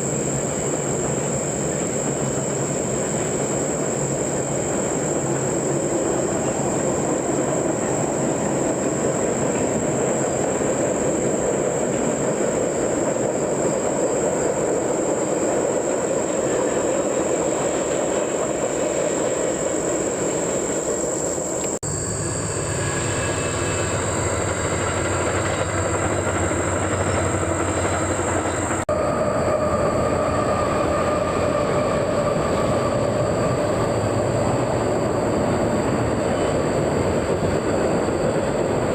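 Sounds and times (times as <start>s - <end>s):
steady whine: 0.0s - 38.9s
train passing on rails: 0.0s - 38.9s.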